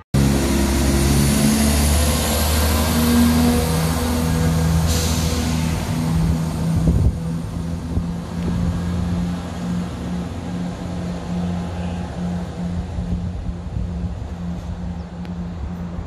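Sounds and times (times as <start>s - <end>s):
diesel train engines droning: 0.0s - 16.0s.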